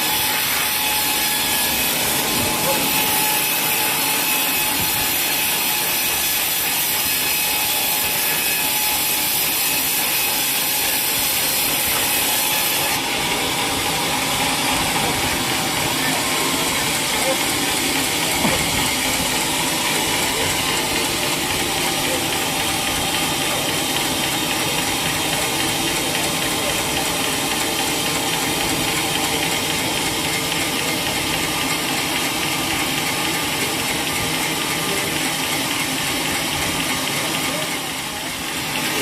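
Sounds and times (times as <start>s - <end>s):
sawmill machinery running: 0.0s - 39.0s.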